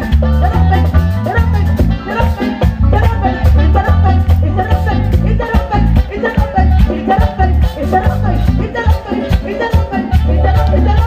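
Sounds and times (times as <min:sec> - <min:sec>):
hand drums and drum kit: 0:00.0 - 0:11.0
heavy bass line: 0:00.0 - 0:11.0
live band playing latin music: 0:00.0 - 0:11.0.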